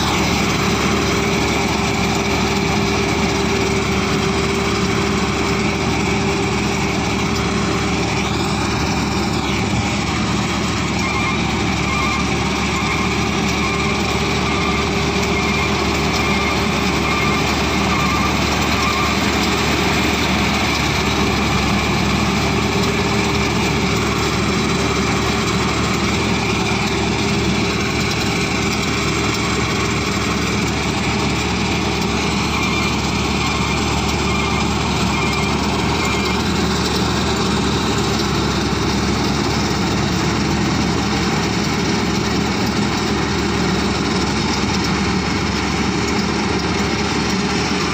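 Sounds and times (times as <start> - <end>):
combine harvester engine drone: 0.0 - 47.9
whining tones: 0.0 - 47.9.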